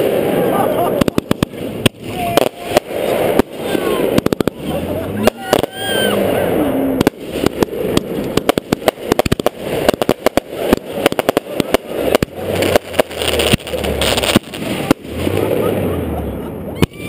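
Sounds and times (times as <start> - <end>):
fireworks popping and banging: 0.0 - 15.9.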